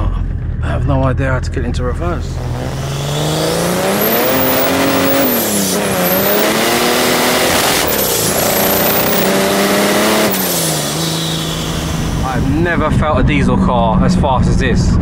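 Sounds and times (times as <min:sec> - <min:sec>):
diesel engine pulling hard: 0:00.2 - 0:15.0
wind and road noise: 0:02.0 - 0:14.0.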